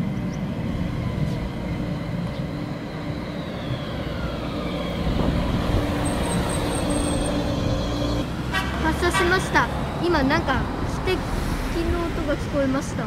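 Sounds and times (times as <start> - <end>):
tram motor whine: 0.0 - 13.0
tram rumbling over rails: 0.0 - 13.0.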